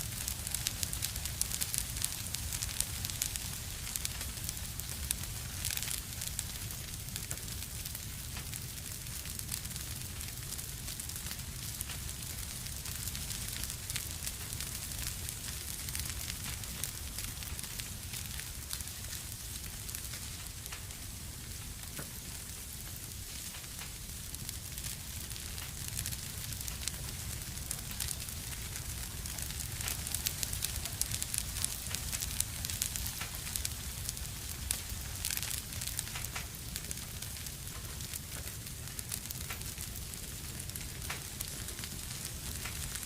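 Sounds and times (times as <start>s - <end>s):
fire crackling in fireplace: 0.0s - 43.0s.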